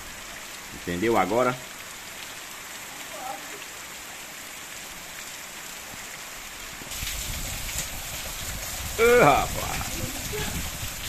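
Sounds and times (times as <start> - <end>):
heavy rain hissing: 0.0 - 11.0
rain splashing into plastic basin: 0.0 - 11.0.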